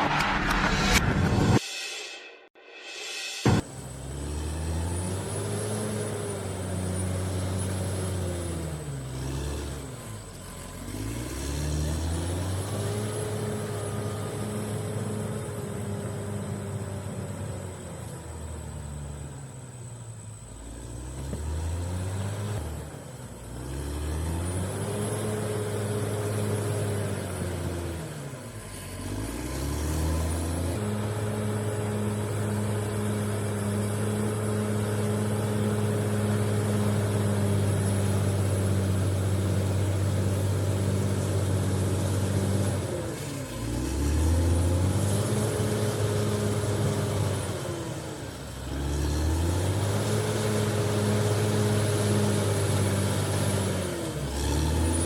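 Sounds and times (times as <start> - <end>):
bulldozer diesel engine working: 3.5 - 55.0.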